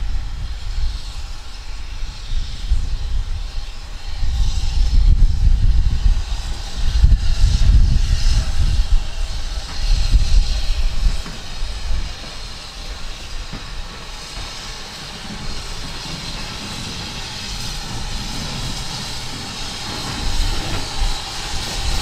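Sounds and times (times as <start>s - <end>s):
hiss: 0.0s - 22.0s
train rumbling past: 0.0s - 22.0s.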